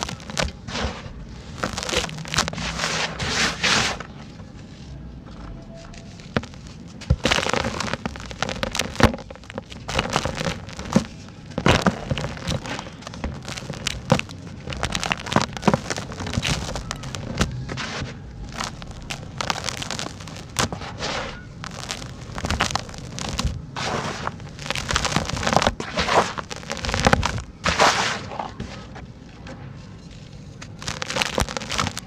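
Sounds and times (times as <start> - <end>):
crumbling chunks crunching: 0.0 - 32.0.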